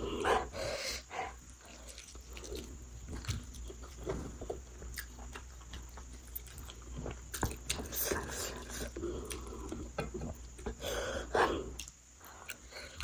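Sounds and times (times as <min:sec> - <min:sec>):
person chewing: 0:00.0 - 0:10.8, 0:11.7 - 0:13.0.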